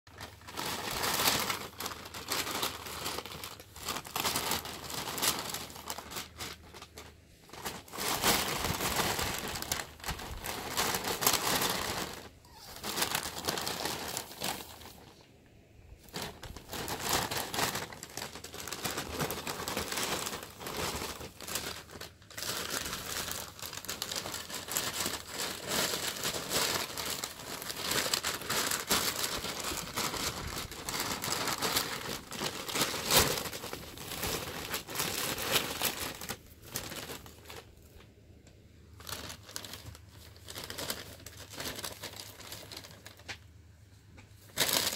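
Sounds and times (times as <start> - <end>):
plastic bag crinkling: 0.1 - 38.1, 38.8 - 43.6, 44.3 - 44.9.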